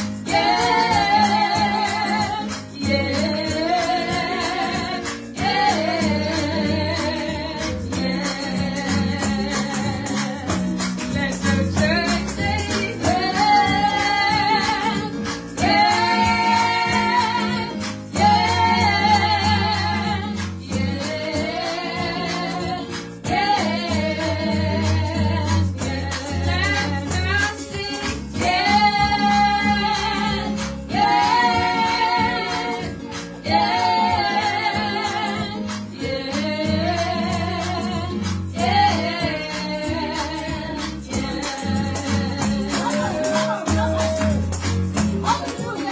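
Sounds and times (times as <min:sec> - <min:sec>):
women singing gospel: 0:00.0 - 0:45.9.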